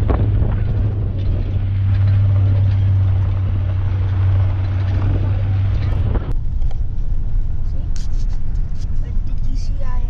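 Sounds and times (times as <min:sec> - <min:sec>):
road and tyre noise: 0:00.0 - 0:10.0
truck engine hum: 0:00.0 - 0:10.0.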